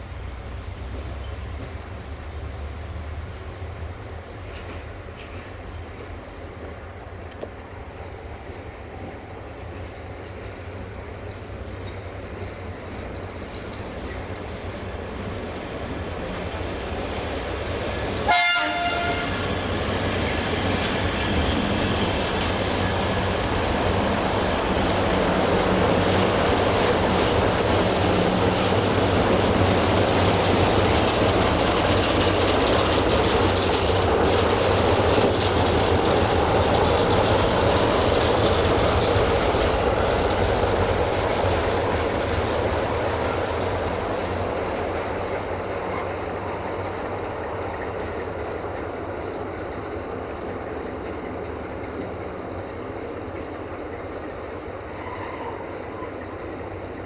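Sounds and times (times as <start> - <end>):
train rolling noise: 0.0 - 57.0.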